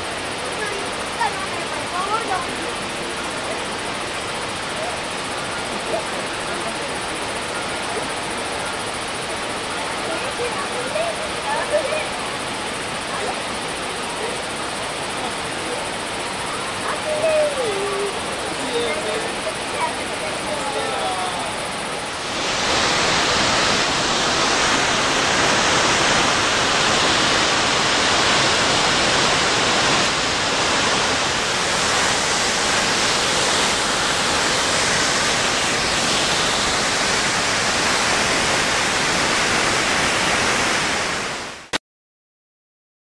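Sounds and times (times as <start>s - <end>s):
waterfall rushing: 0.0s - 41.8s.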